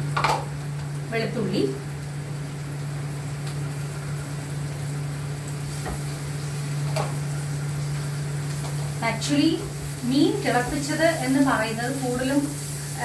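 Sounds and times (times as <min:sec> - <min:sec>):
steady low hum: 0:00.0 - 0:13.0
food sizzling in hot oil: 0:00.1 - 0:13.0.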